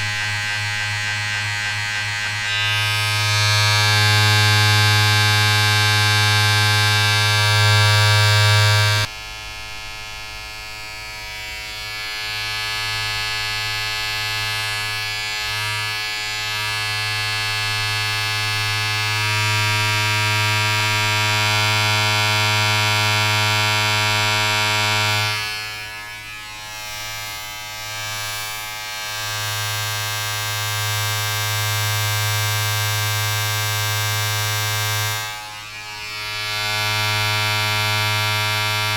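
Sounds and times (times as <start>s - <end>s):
electric appliance buzzing: 0.0s - 38.9s.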